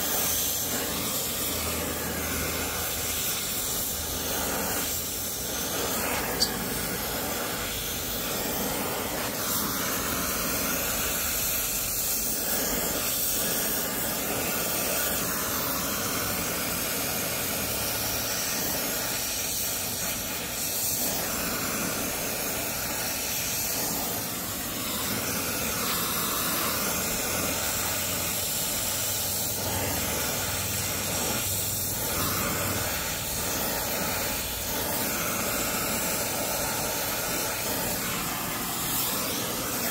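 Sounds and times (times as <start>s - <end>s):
gas torch flame hissing: 0.0s - 39.9s.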